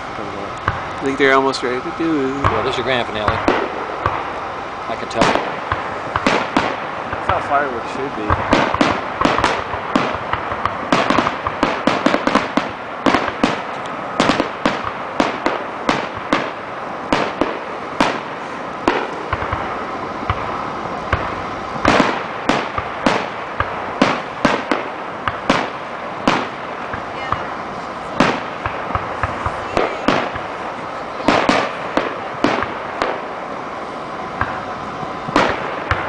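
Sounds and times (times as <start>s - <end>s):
fireworks bursting: 0.0s - 36.0s.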